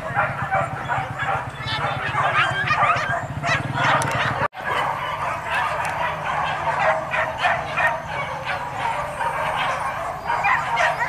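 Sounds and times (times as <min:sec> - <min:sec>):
many dogs barking and yelping: 0:00.0 - 0:11.0.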